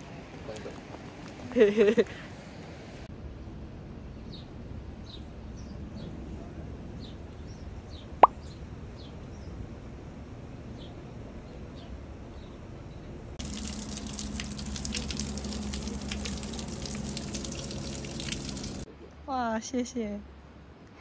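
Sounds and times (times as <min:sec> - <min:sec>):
low steady background noise: 0:00.0 - 0:21.0.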